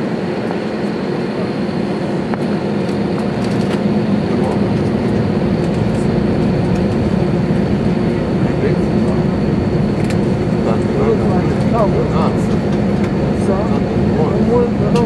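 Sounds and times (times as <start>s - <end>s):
jet engine hum from inside cabin: 0.0s - 15.0s.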